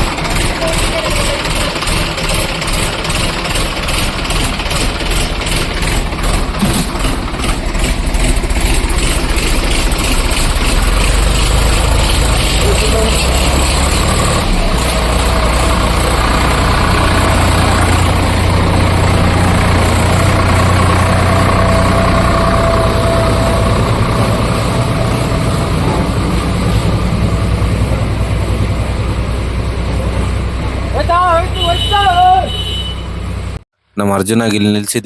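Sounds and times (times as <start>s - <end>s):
tractor engine running: 0.0s - 33.6s.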